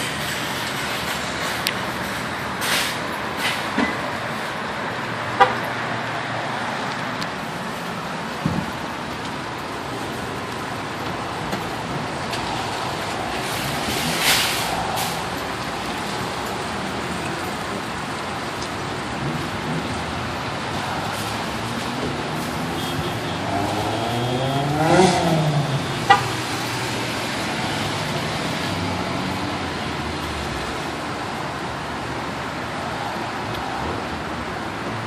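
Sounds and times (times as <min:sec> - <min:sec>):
hum of vehicles: 0:00.0 - 0:35.0.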